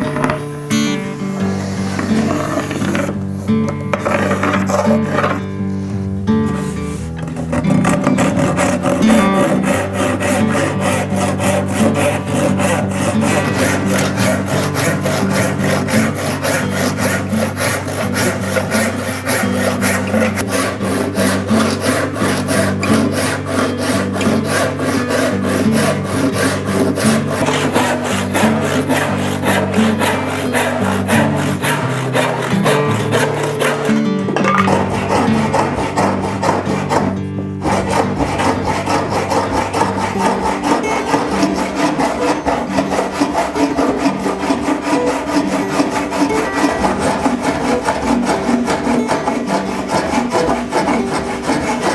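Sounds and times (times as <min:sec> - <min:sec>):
background music: 0:00.0 - 0:51.9
bow saw cutting wood: 0:00.0 - 0:51.9.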